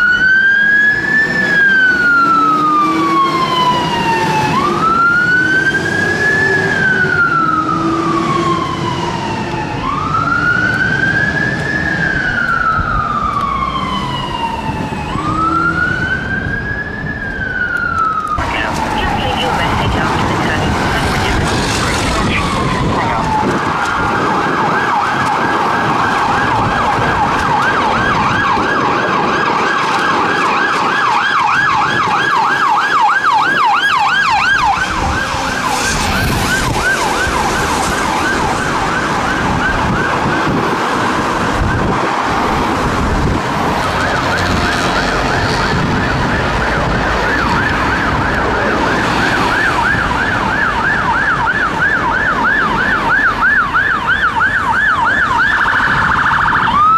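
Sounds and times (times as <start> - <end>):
ambulance siren yelping: 0.0 - 56.9
police siren wail and yelp: 0.0 - 56.9
road traffic: 0.0 - 56.9.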